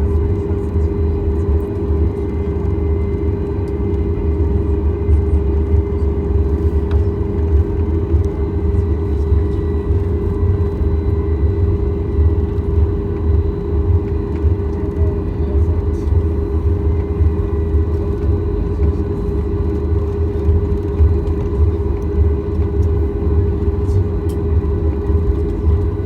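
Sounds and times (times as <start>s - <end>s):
aircraft engines idling: 0.0s - 26.0s
constant mid-pitched cabin hum: 0.0s - 26.0s.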